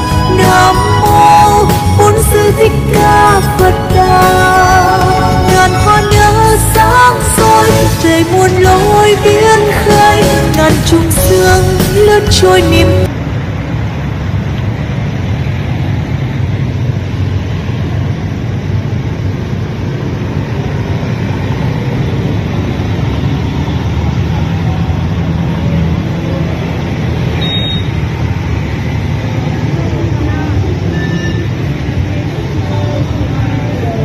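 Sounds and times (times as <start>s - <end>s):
motorbike engines running: 0.0s - 34.0s
street traffic rumble: 0.0s - 34.0s.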